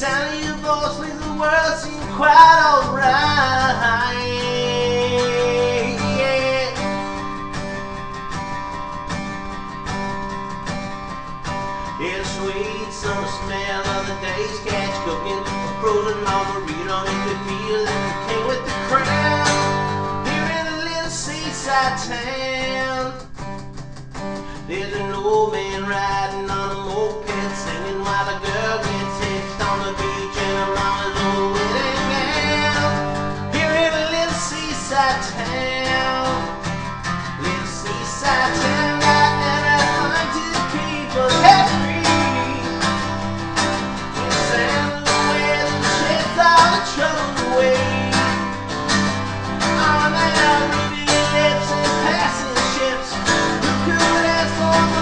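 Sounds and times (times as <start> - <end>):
instrumental country music: 0.0 - 55.0.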